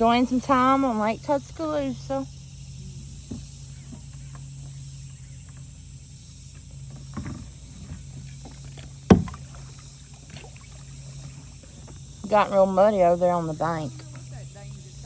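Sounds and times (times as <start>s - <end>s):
paddle splashing water: 0.0s - 15.0s.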